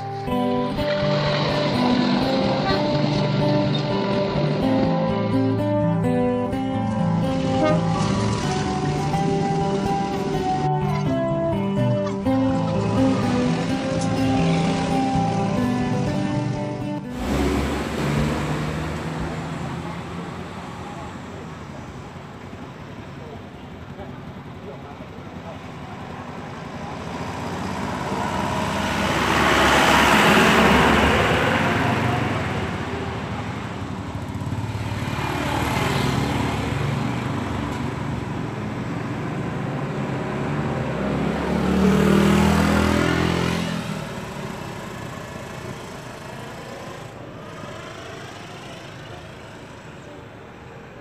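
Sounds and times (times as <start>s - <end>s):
traffic background: 0.0s - 51.0s
vehicles passing by: 0.0s - 51.0s.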